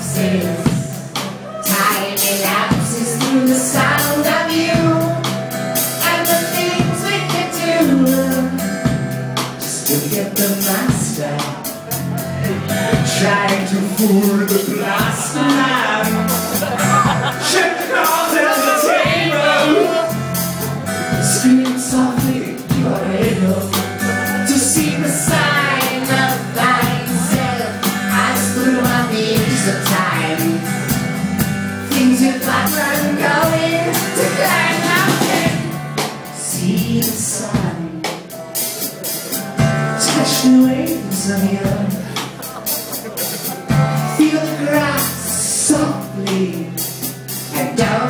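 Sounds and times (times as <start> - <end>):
man singing: 0.0 - 5.4, 6.0 - 20.4, 21.1 - 31.2, 31.8 - 48.0
acoustic guitar: 0.0 - 48.0
bass guitar: 0.0 - 48.0
drums: 0.0 - 48.0.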